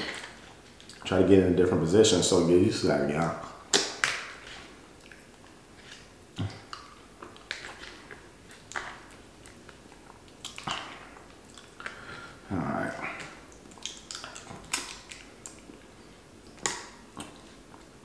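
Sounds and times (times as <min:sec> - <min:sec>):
chewing and mouth noises: 0:00.0 - 0:01.1, 0:03.4 - 0:18.0.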